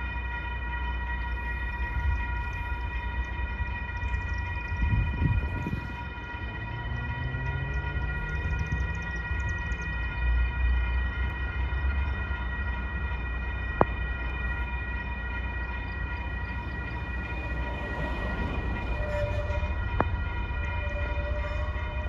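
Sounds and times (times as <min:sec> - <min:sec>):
crossing warning signal tone: 0:00.0 - 0:22.0.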